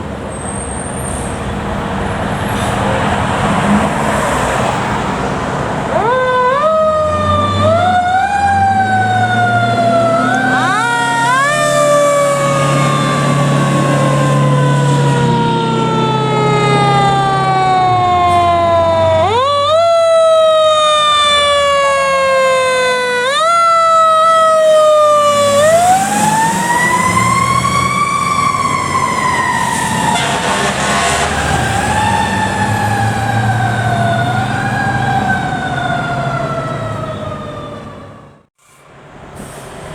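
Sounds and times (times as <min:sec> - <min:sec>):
heavy truck engine: 0:00.0 - 0:39.9
fire truck siren: 0:01.6 - 0:38.5.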